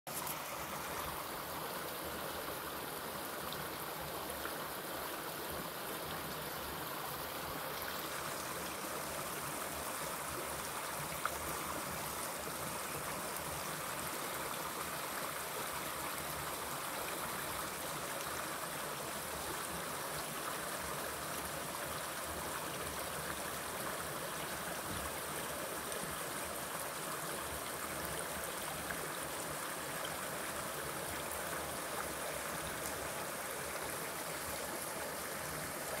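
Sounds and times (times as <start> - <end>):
creek flowing over stones: 0.1 - 36.0.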